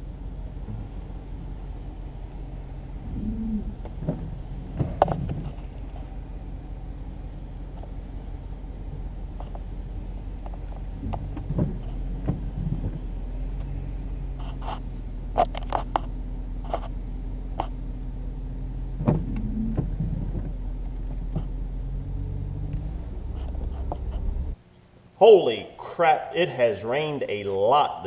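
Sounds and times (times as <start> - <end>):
vehicle engine hum: 0.0 - 24.9.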